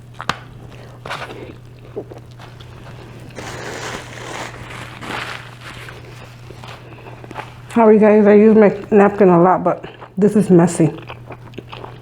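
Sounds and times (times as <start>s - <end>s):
chewing food: 0.0s - 12.0s
low electrical hum: 0.0s - 12.0s.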